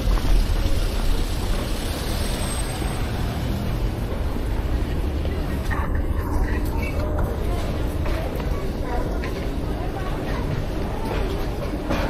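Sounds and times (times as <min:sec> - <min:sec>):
rumble of car engines and tyres: 0:00.0 - 0:12.0.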